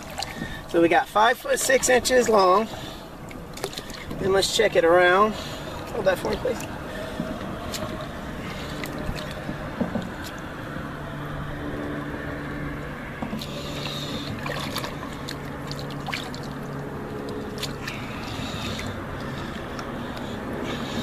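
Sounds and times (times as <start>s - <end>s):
shallow water splashing: 0.0s - 21.0s
steady low hum: 0.0s - 21.0s.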